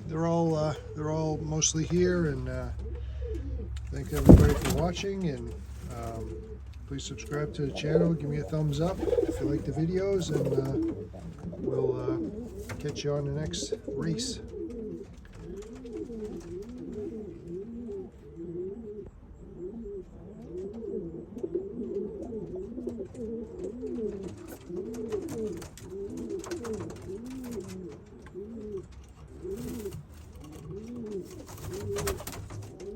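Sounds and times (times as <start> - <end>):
faint rustles: 0.0 - 18.3, 20.0 - 32.9
pigeons cooing: 0.0 - 32.9.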